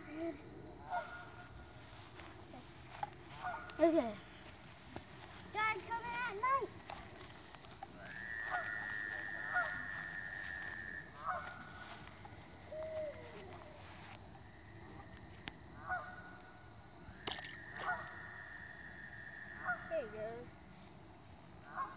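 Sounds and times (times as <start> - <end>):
frogs croaking: 0.0 - 21.9
frogs trilling: 0.0 - 21.9.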